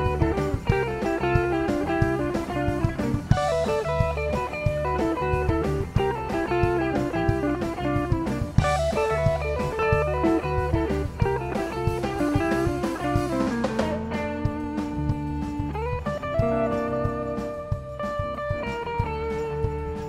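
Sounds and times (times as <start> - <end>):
bass guitar: 0.0 - 20.0
drums: 0.0 - 20.0
electric guitars: 0.0 - 20.0.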